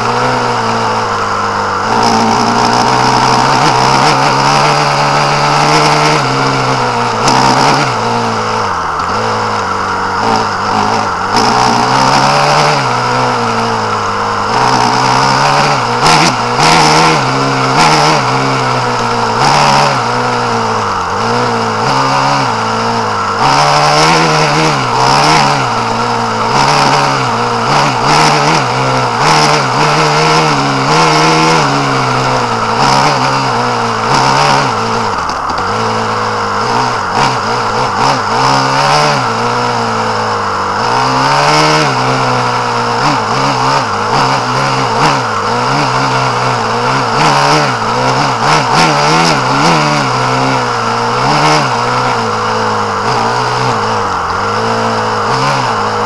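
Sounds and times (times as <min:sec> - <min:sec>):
off-road engine revving: 0:00.0 - 0:56.0.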